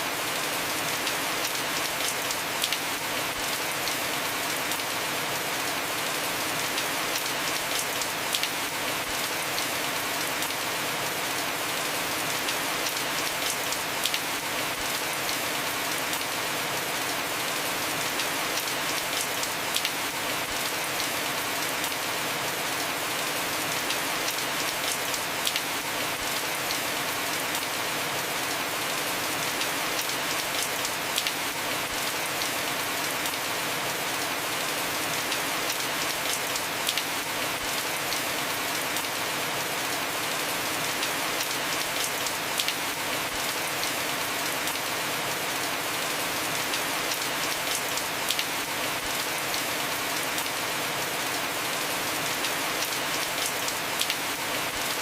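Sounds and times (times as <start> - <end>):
heavy rain on roof: 0.0 - 55.0.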